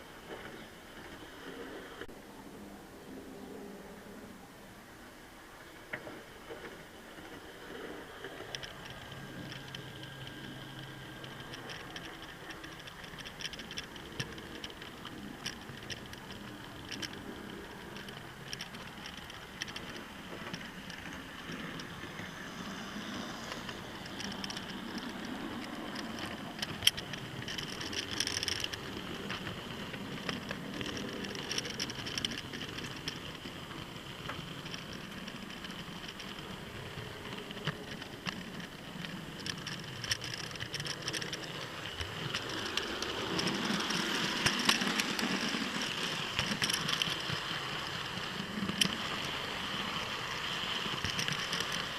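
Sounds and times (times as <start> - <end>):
model train wheels clicking: 5.7 - 51.9.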